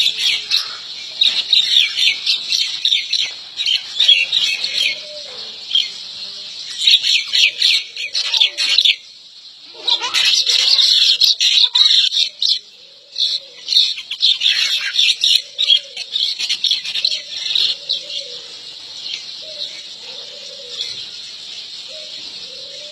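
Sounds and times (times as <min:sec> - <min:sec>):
birds chirping: 0:00.0 - 0:22.9.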